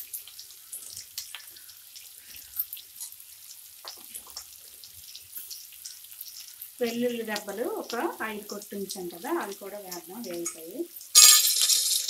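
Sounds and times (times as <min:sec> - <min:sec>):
oil popping and crackling: 0:00.0 - 0:12.0
onions sizzling in hot oil: 0:00.0 - 0:12.0.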